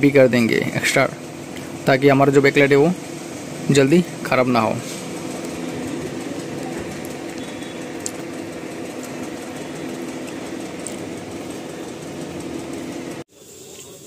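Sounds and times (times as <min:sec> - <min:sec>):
mechanical hum of motor: 0:00.0 - 0:14.0.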